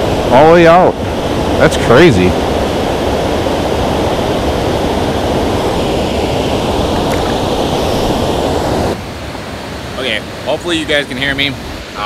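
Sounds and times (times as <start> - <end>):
water rushing over a spillway: 0.0 - 12.0.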